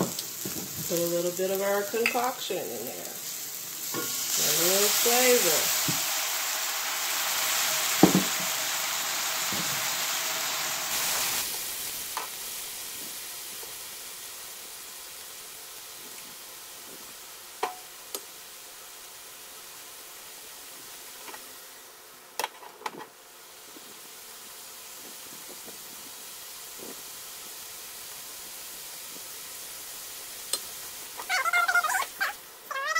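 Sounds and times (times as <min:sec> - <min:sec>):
mushrooms sizzling in a frying pan: 0:00.0 - 0:32.9.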